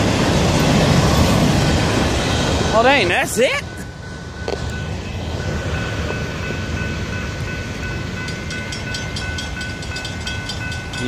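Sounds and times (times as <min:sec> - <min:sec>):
freight train rumble: 0:00.0 - 0:11.0
crossing bell ringing: 0:00.5 - 0:11.0.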